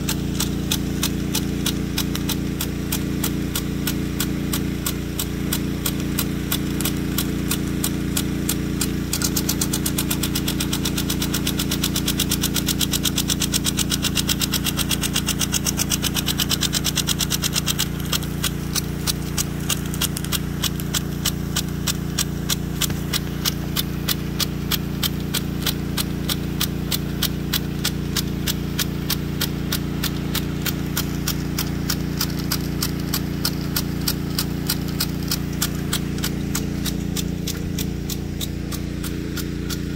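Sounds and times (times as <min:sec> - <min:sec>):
impact sprinkler arm clacking: 0:00.0 - 0:39.9.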